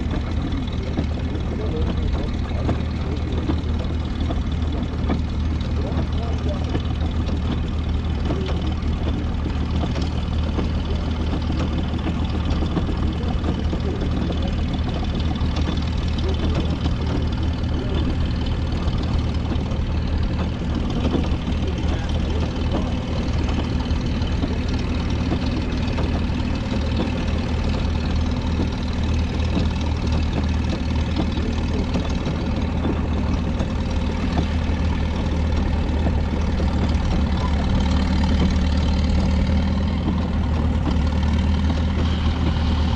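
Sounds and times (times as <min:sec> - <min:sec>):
engine droning: 0:00.0 - 0:42.9.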